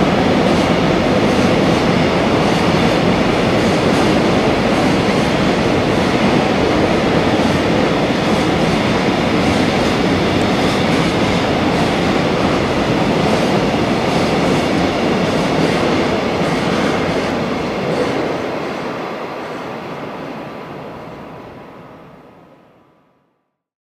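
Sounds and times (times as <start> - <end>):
freight train rumbling past: 0.0 - 23.1.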